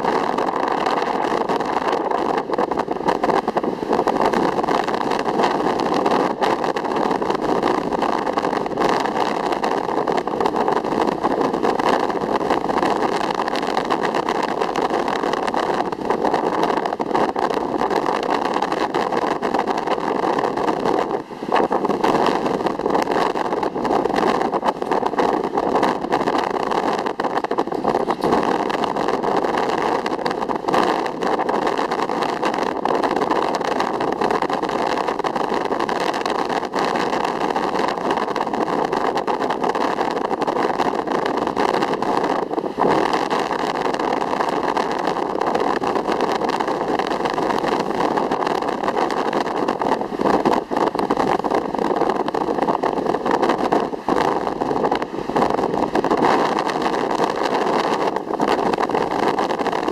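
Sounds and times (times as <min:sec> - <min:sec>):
ocean surf rushing: 0:00.0 - 0:59.9.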